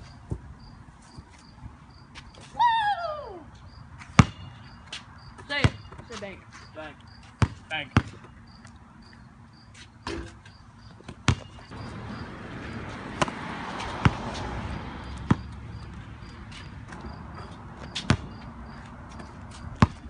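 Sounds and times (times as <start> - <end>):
basketball bouncing on pavement: 0.0 - 2.5, 3.7 - 20.0.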